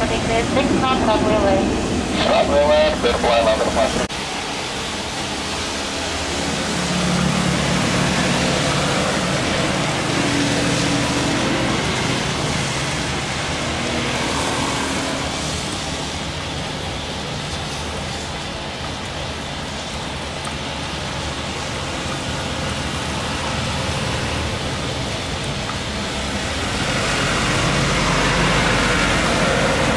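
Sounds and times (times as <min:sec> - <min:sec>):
jet engines at takeoff power: 0:00.0 - 0:29.9.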